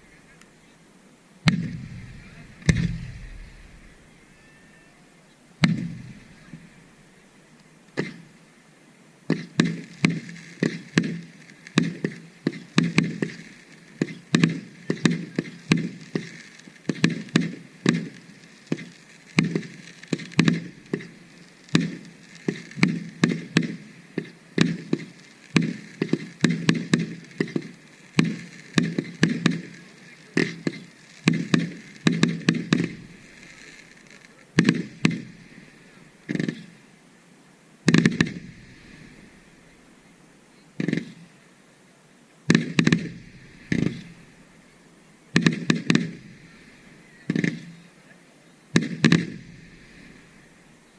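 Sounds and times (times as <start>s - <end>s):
firework shells bursting: 1.4s - 8.4s, 9.3s - 36.9s, 37.8s - 40.2s, 40.8s - 41.4s, 42.5s - 47.9s, 48.7s - 50.9s.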